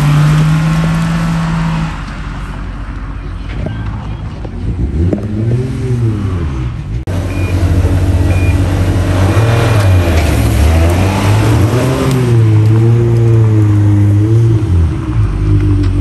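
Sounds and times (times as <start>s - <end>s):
rally car engine accelerating: 0.0s - 2.3s, 3.9s - 16.0s.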